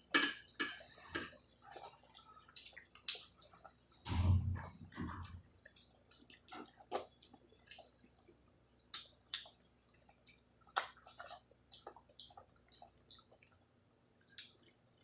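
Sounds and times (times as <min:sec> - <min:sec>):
wet chewing and smacking: 0:01.3 - 0:15.0.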